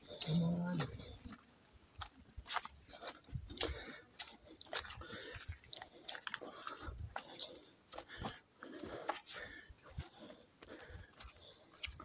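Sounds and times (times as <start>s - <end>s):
footsteps crunching on gravel: 0.0s - 12.0s.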